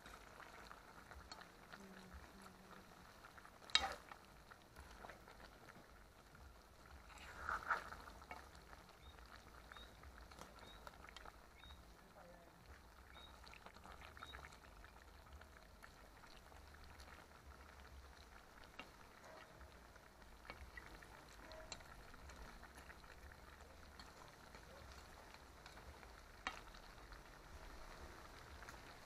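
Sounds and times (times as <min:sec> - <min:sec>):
stew bubbling in pot: 0:00.0 - 0:29.0.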